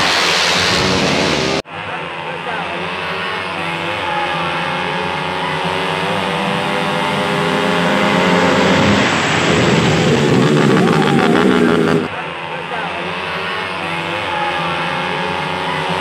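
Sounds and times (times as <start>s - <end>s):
motorcycle engines revving hard: 0.0s - 1.6s, 2.5s - 12.1s, 12.7s - 16.0s.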